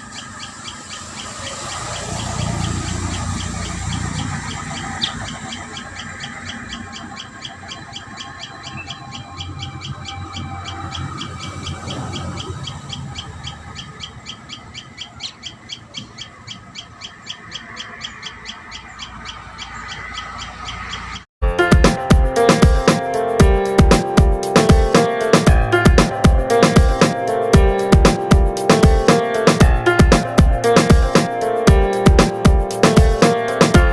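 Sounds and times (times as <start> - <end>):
birds chirping rapidly: 0.0 - 21.3, 22.2 - 33.9.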